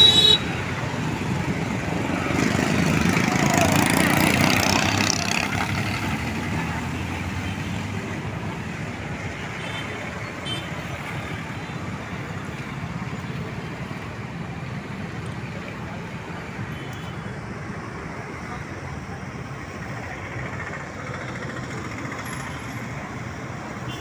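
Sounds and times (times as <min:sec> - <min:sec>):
steady traffic rumble: 0:00.0 - 0:24.0.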